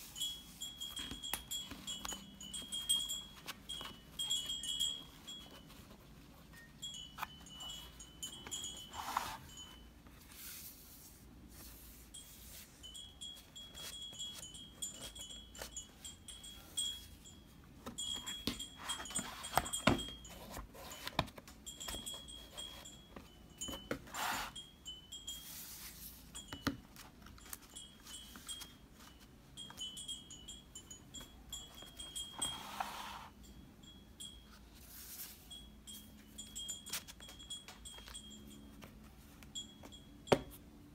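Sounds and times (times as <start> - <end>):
high tinkling: 0.0 - 40.9.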